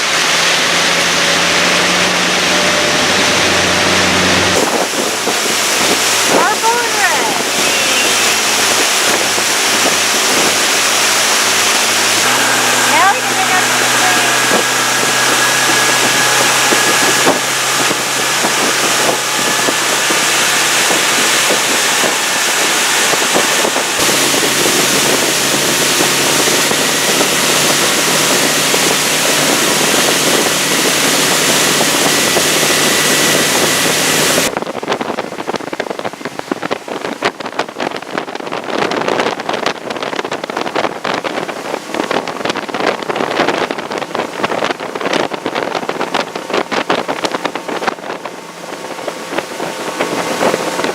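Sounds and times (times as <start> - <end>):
motorboat engine drone: 0.0 - 50.9
wind buffeting microphone: 0.0 - 50.9.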